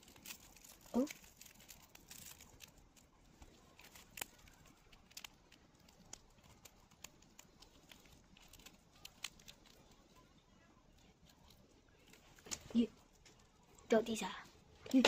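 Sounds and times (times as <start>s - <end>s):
small animal crunching insect shell: 0.0s - 13.9s.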